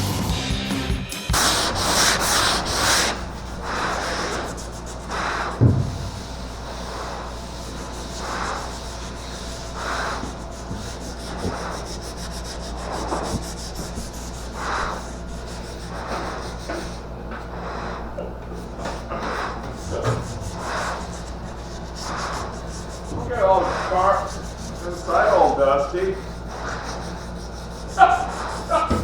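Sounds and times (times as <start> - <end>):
sandpaper rasping: 1.2 - 29.0.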